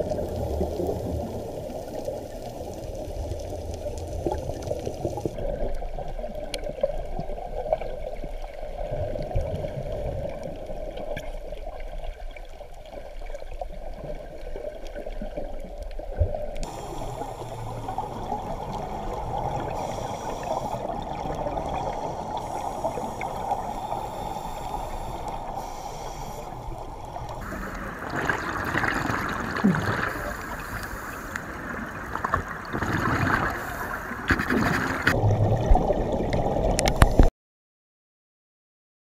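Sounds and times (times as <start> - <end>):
muffled underwater rush: 0.0 - 37.3.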